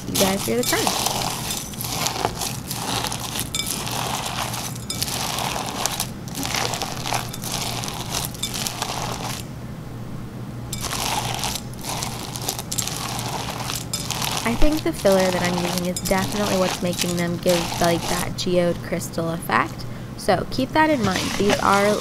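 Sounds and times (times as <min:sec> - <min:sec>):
slime with beads crunching: 0:00.0 - 0:09.5, 0:10.8 - 0:18.7, 0:21.0 - 0:22.0.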